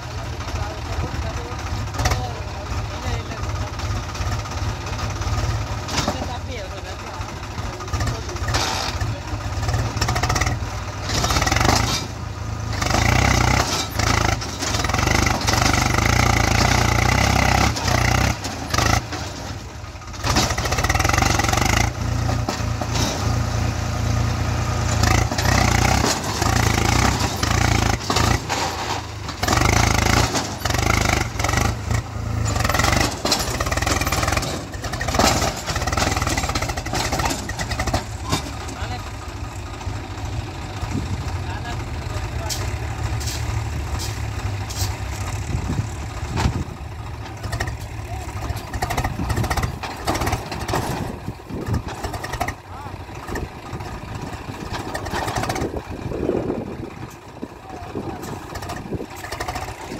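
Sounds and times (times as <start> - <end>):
tractor diesel engine revving: 0.0 - 59.9.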